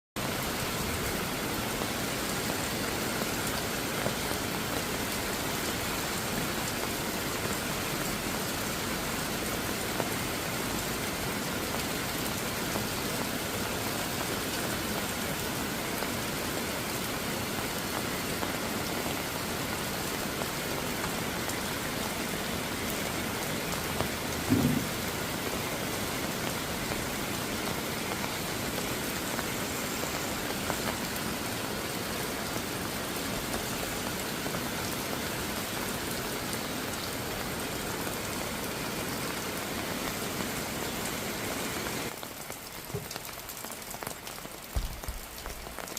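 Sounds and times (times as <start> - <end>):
rain pattering: 0.2 - 45.9.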